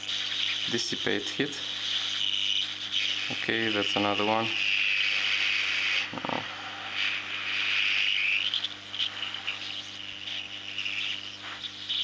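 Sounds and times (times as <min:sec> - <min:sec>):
hot air station hissing: 0:00.0 - 0:12.0.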